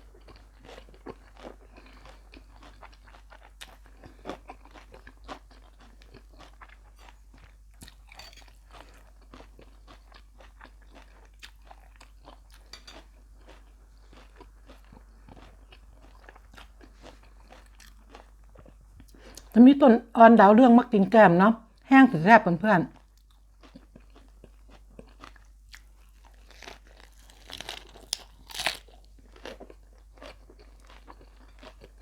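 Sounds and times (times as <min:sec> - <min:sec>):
person chewing crunchy food: 0:00.0 - 0:19.6, 0:22.9 - 0:32.0.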